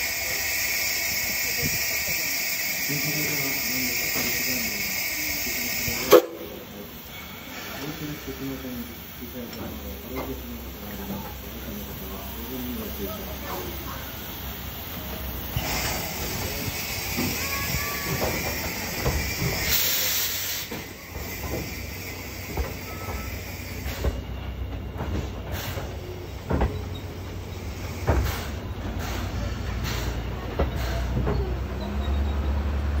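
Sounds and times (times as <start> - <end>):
burst of steam: 0.0 - 24.3, 27.5 - 31.3
steam train hissing and rumbling: 0.0 - 33.0.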